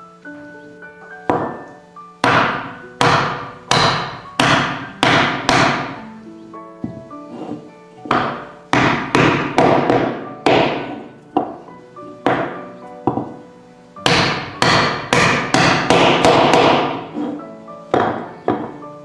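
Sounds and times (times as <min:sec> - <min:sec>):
faint background music: 0:00.0 - 0:19.0
hammer blows on wood: 0:01.3 - 0:06.0, 0:06.8 - 0:11.6, 0:12.2 - 0:13.4, 0:14.0 - 0:18.8.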